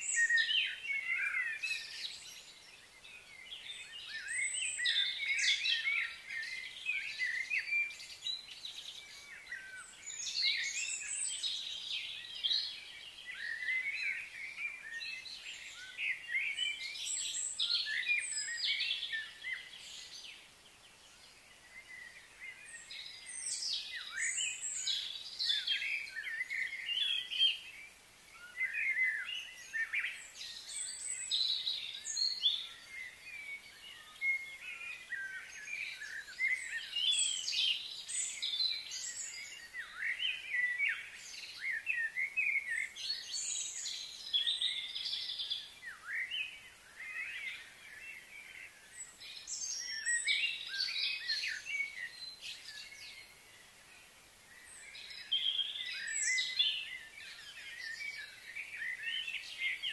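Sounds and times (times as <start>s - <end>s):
birds chirping and singing: 0.0s - 59.9s
faint high hiss: 0.0s - 59.9s.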